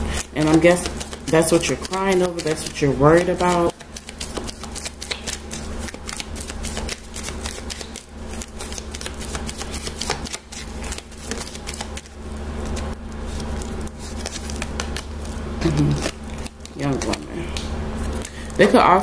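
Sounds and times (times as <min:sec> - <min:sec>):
steady low hum: 0:00.0 - 0:19.0
cards being shuffled: 0:00.1 - 0:18.9.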